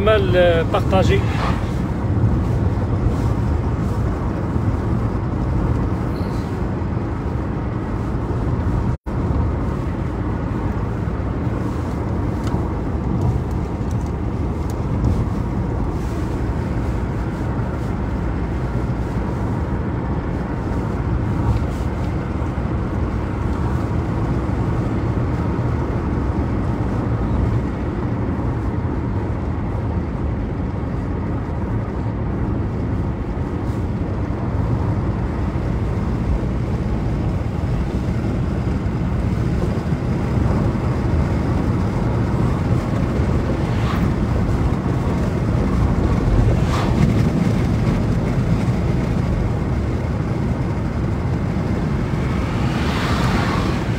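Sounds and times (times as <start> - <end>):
car driving on highway interior: 0.0 - 53.9.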